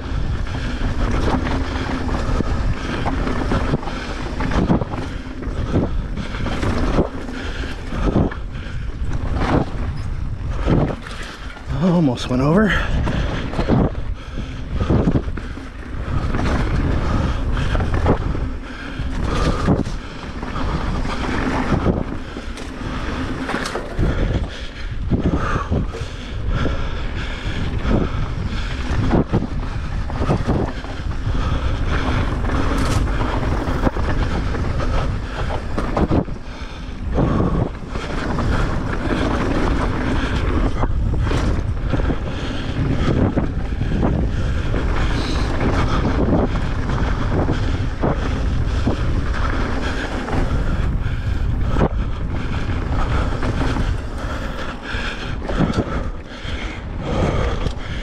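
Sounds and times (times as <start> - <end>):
bike knocking and rattling: 0.0 - 58.0
tyres rumbling on dirt: 0.0 - 58.0
wind buffeting microphone: 0.0 - 58.0.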